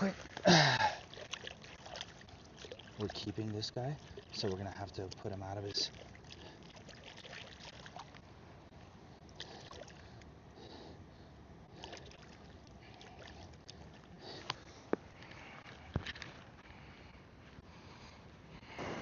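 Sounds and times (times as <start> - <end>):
water sloshing and trickling: 0.0 - 10.4, 11.6 - 17.1.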